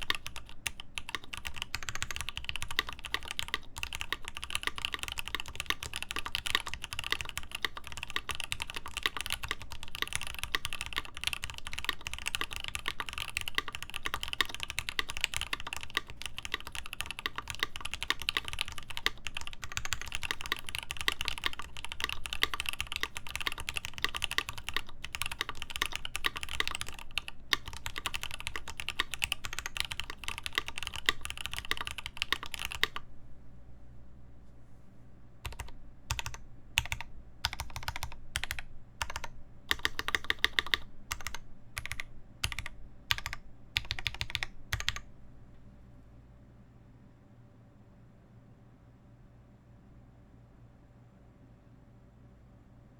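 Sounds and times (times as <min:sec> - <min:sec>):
mechanical keyboard typing: 0:00.0 - 0:33.0, 0:35.4 - 0:45.1.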